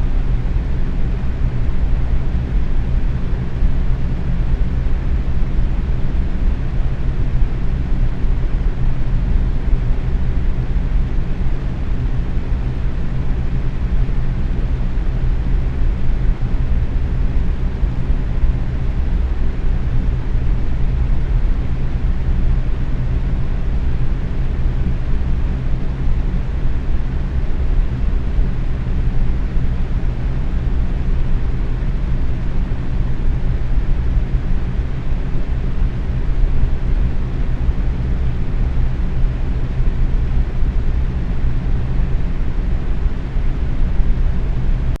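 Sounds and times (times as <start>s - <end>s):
box fan rushing air: 0.0s - 45.0s
fan motor hum: 0.0s - 45.0s.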